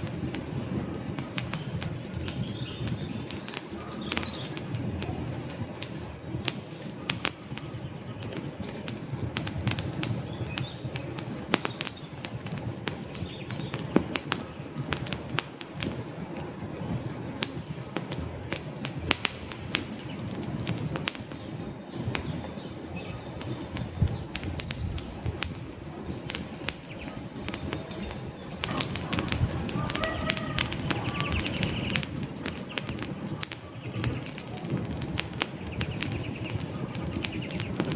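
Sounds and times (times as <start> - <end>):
fire crackles and pops: 0.0 - 37.9
rush of flames: 0.0 - 37.9.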